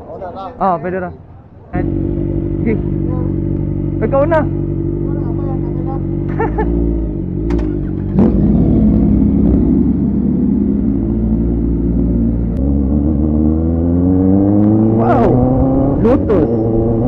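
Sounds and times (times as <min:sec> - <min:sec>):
motorcycle engine revving: 0:01.7 - 0:17.0.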